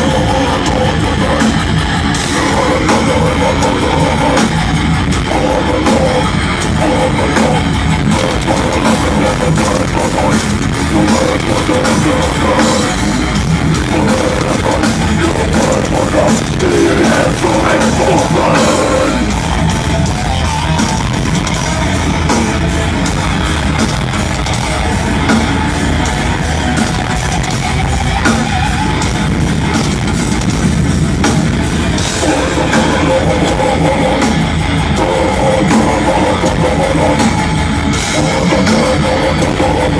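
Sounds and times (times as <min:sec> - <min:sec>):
heavy metal music: 0:00.0 - 0:39.9.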